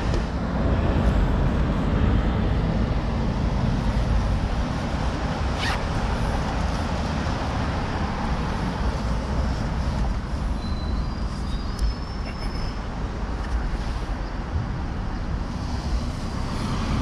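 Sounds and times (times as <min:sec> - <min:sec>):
wind and road noise on microphone: 0:00.0 - 0:17.0.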